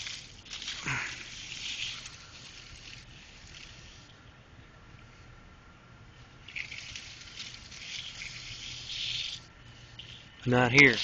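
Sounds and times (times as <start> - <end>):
twig and leaves rustling: 0.0 - 4.4, 6.2 - 11.0
low background hum: 0.0 - 11.0.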